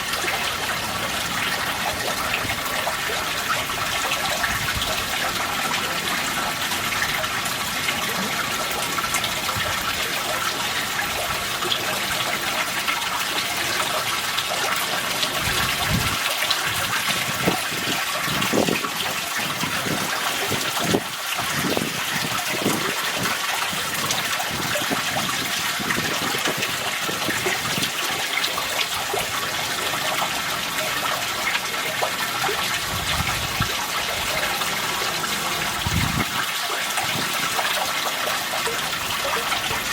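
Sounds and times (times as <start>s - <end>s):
pond water splashing: 0.0s - 39.9s.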